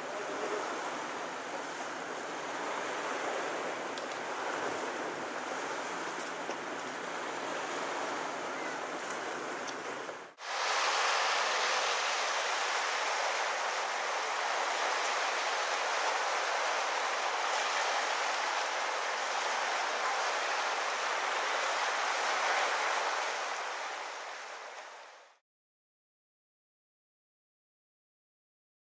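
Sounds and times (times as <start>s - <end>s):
small waves breaking on shore: 0.0s - 25.4s.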